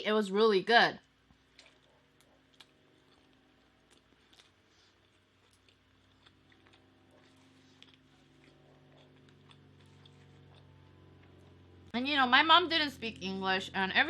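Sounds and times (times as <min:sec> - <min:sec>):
low hum: 0:01.2 - 0:14.0.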